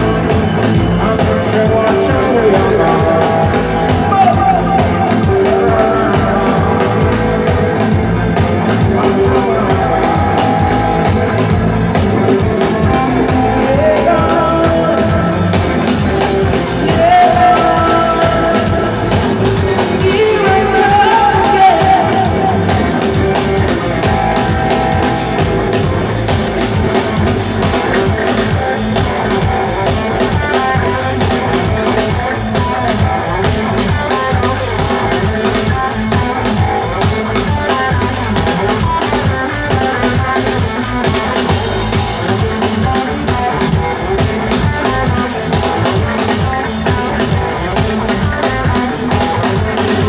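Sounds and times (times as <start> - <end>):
drum kit beat: 0.0 - 50.0
reggae band playing: 0.0 - 50.0.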